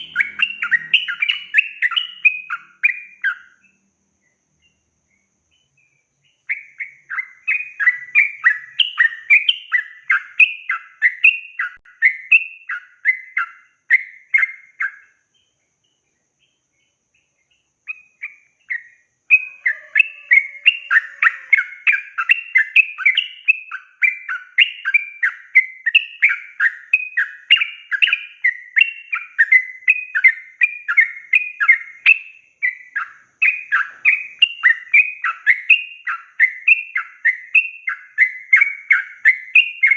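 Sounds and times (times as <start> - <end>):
bird singing bubbly warbling song: 0.0 - 3.7, 5.6 - 15.2, 17.6 - 39.9.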